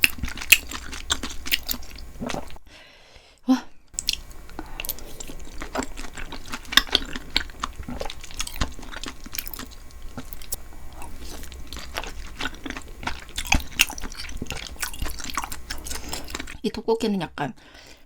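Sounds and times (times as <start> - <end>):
close-miked chewing: 0.0 - 2.6, 4.0 - 16.6.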